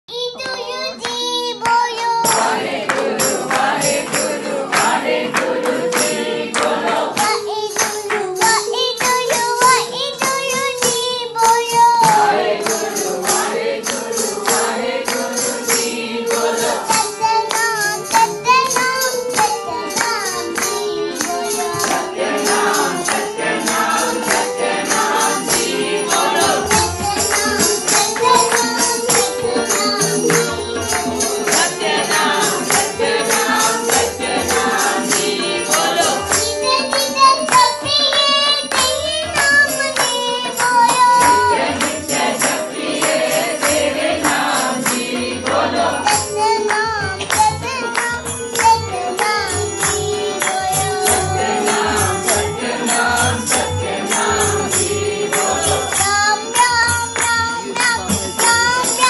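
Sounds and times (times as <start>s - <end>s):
child singing into a microphone: 0.1s - 59.0s
percussion beat: 0.4s - 59.0s
group singing: 2.1s - 9.6s, 10.2s - 59.0s.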